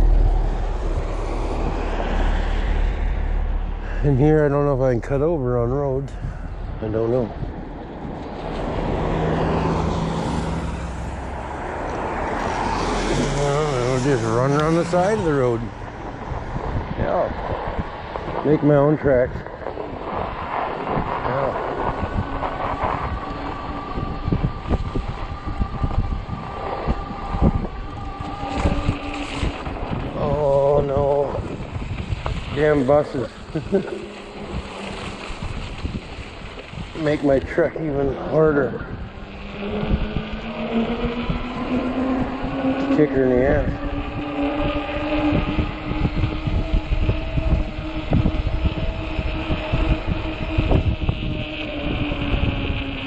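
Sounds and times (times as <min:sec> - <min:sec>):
wind noise on microphone: 0:00.0 - 0:53.0
electric motor whine: 0:06.8 - 0:17.0, 0:19.7 - 0:53.0.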